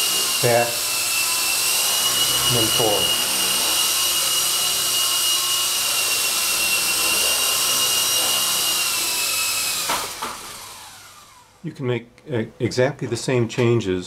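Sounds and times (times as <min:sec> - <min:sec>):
toy helicopter rotors whining: 0:00.0 - 0:11.6.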